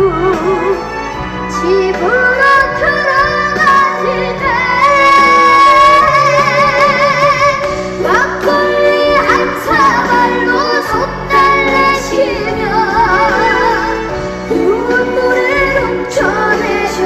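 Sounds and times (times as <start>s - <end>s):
musical accompaniment: 0.0s - 17.0s
girl singing with vibrato: 1.5s - 17.0s.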